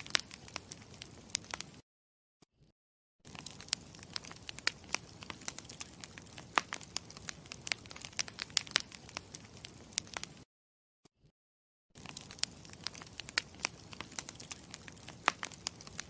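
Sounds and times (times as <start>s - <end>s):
campfire crackling and popping: 0.0s - 1.8s, 3.3s - 10.5s, 12.0s - 16.0s.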